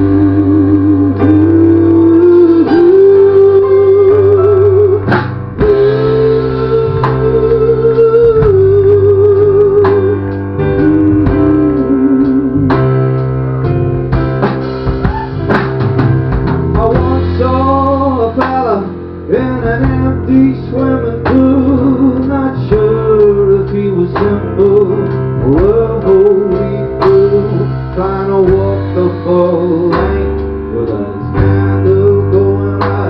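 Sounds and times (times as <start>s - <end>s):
guitar: 0.0s - 33.0s
steady bass line: 0.0s - 33.0s
wavering lead melody: 0.0s - 33.0s.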